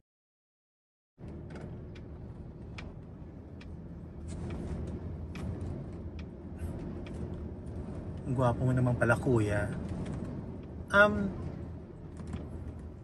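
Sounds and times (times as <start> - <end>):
car cabin road rumble: 1.2 - 13.0.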